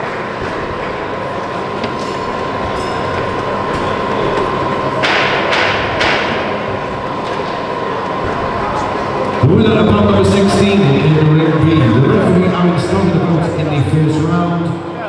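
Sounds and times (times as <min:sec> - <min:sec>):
crowd hubbub: 0:00.0 - 0:15.0.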